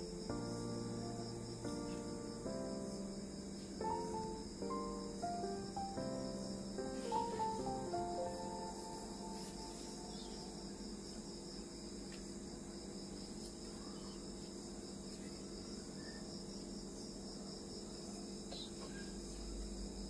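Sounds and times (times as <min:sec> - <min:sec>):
low steady hum: 0:00.0 - 0:16.7
crickets trilling: 0:00.0 - 0:20.0.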